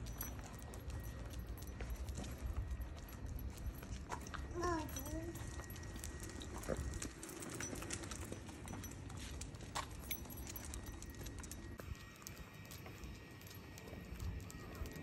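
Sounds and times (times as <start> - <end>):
dog claws clicking on asphalt: 0.0 - 15.0.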